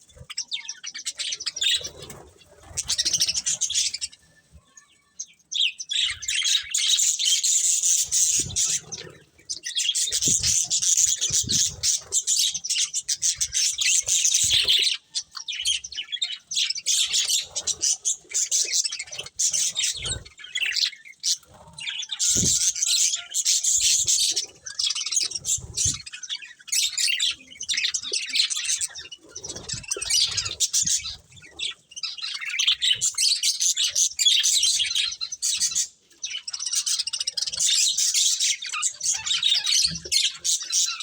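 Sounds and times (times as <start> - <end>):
budgerigars chattering and chirping: 0.0 - 4.3, 5.3 - 41.0.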